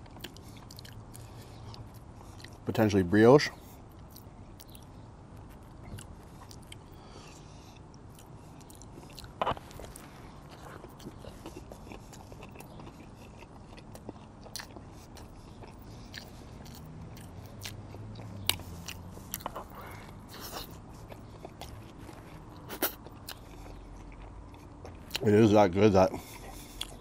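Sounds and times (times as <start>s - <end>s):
chewing with wet mouth clicks: 0.0s - 2.7s, 3.6s - 25.4s, 26.2s - 27.0s.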